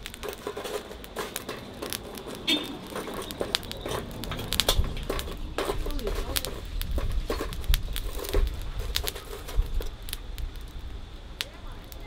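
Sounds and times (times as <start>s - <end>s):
charcoal crackling: 0.0s - 12.0s.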